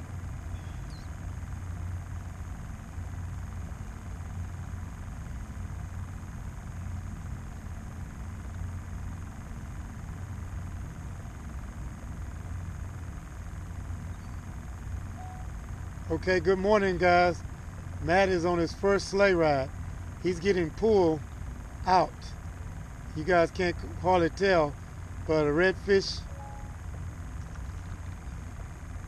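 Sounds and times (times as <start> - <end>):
faint high-pitched whine: 0.0 - 29.0.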